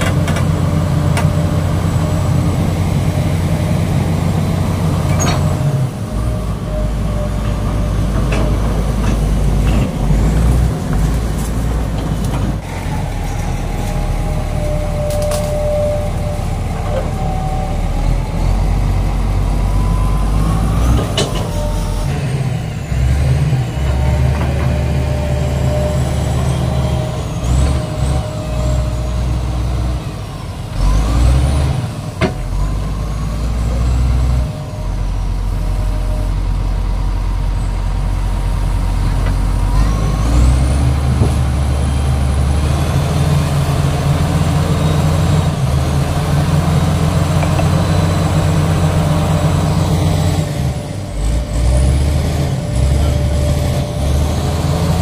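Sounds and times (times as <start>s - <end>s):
excavator diesel engine: 0.0s - 55.0s.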